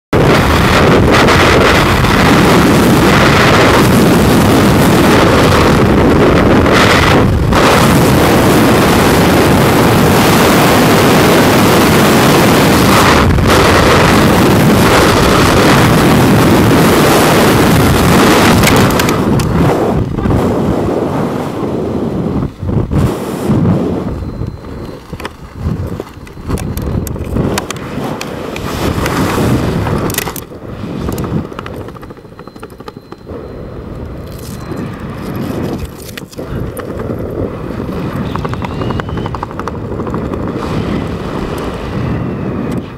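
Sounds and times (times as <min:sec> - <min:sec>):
wind rushing over microphone: 0:00.1 - 0:42.9.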